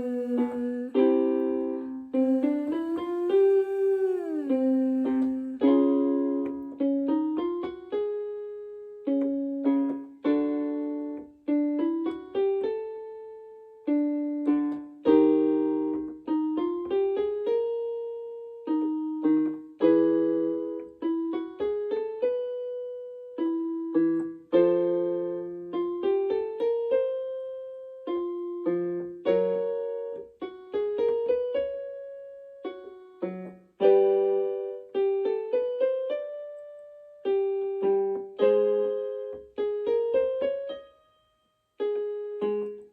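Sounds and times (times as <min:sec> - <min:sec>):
piano chords and scales: 0:00.0 - 0:42.9.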